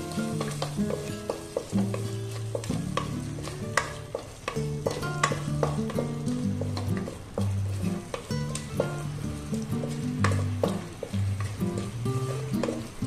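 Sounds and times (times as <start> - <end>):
sauce sizzling in a pan: 0.0 - 13.0
wooden spatula scraping a pan: 0.0 - 13.0.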